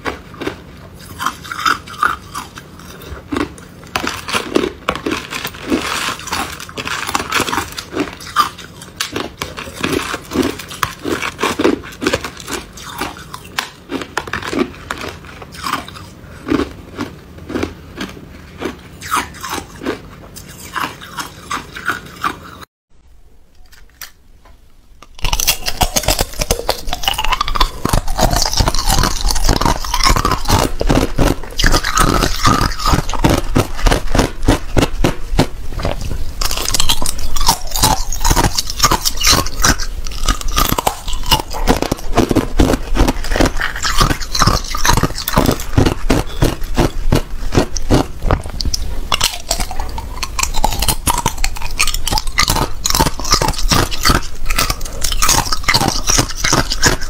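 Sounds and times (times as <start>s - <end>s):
ice being chewed: 0.0s - 22.7s, 25.0s - 57.0s.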